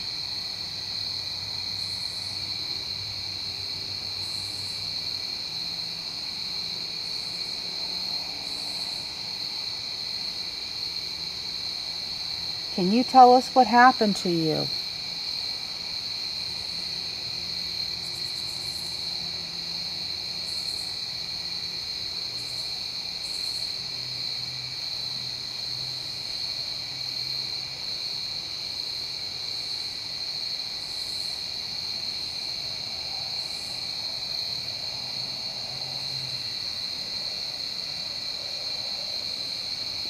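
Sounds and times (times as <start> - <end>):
crickets trilling: 0.0 - 40.0.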